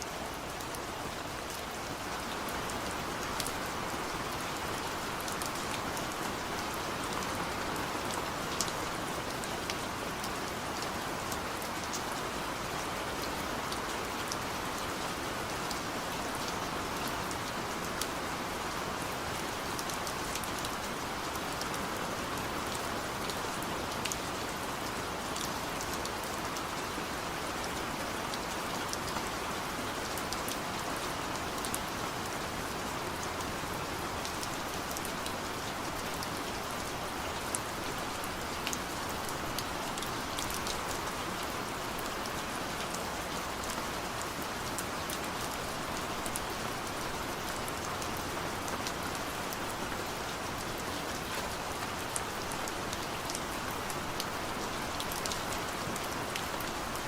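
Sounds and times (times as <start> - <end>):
raindrops pattering on a surface: 0.0 - 57.0
steady rain hiss: 0.0 - 57.0.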